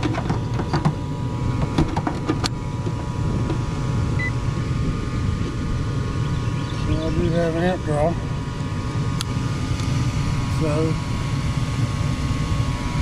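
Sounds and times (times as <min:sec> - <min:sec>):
gas furnace humming: 0:00.0 - 0:13.0.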